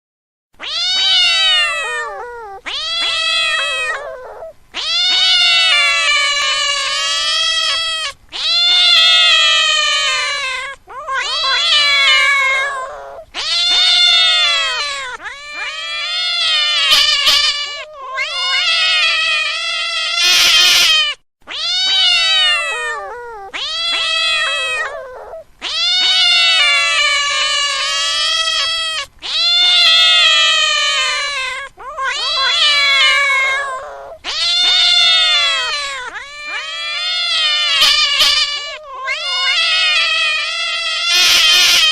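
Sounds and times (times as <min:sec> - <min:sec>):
cat meowing loudly: 0:00.6 - 0:41.9.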